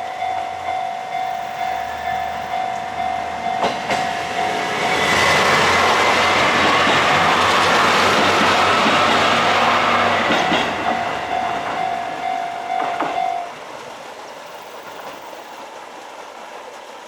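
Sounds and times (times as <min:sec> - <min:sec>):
diesel train passing: 0:00.0 - 0:17.0
wheels clacking over rails: 0:00.0 - 0:17.0.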